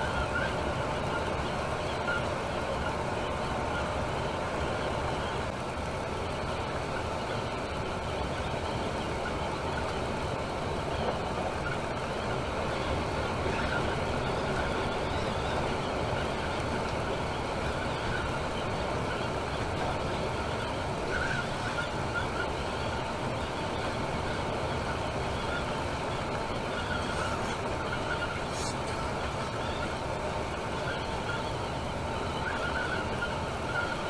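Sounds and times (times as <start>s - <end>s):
coach engine and road noise: 0.0s - 34.0s.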